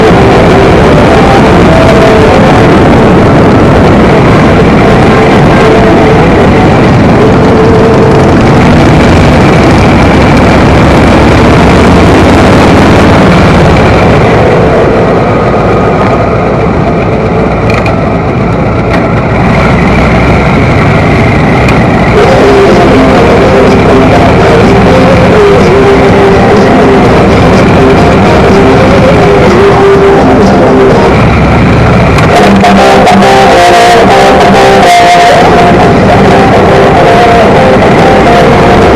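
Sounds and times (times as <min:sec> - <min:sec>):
motorcycle engine running: 0:00.0 - 0:38.9
music playing: 0:00.0 - 0:38.9
wind rushing: 0:00.0 - 0:38.9.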